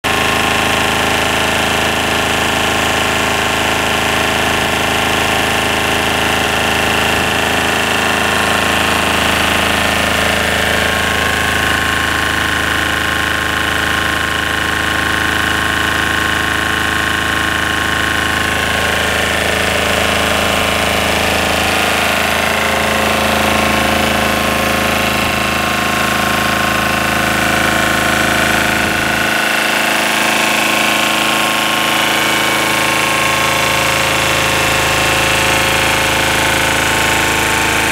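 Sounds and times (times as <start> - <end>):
diesel generator running: 0.0 - 37.9.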